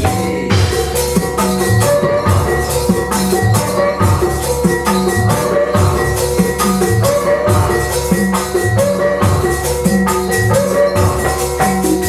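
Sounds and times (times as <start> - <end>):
pitch-bending drum strokes: 0.0 - 12.0
ringing pitched metal tones: 0.0 - 12.0.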